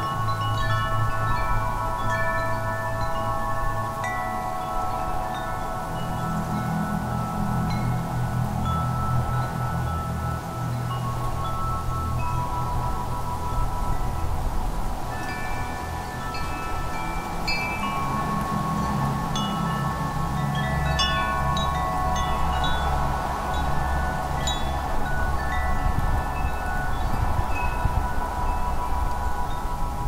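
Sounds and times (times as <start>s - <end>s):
low rush of wind: 0.0s - 30.0s
wind chimes ringing: 0.0s - 30.0s.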